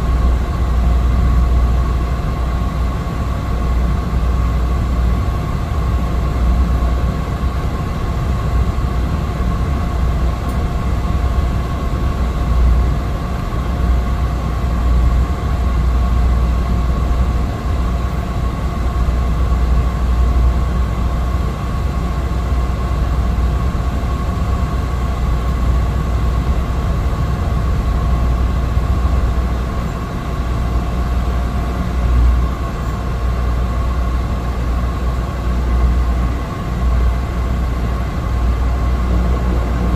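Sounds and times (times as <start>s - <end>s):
steady whining tones: 0.0s - 39.9s
turboprop engine rumble: 0.0s - 39.9s.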